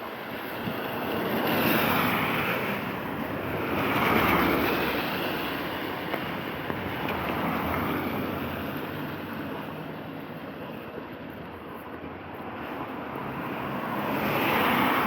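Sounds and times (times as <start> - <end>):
car passing on wet road: 0.2 - 10.4, 12.5 - 15.0.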